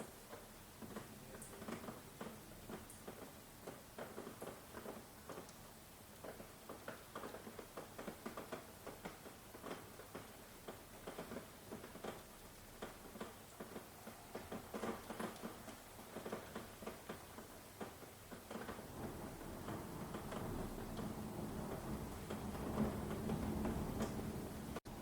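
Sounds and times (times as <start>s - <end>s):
faint rain hiss: 0.0s - 25.0s
raindrops pattering close by: 0.0s - 25.0s.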